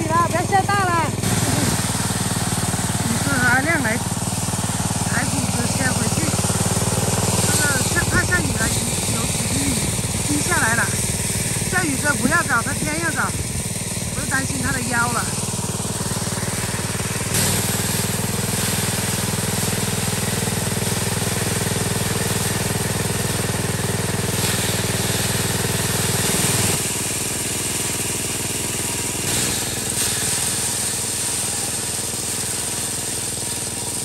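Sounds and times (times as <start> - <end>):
rice thresher running: 0.0 - 34.0.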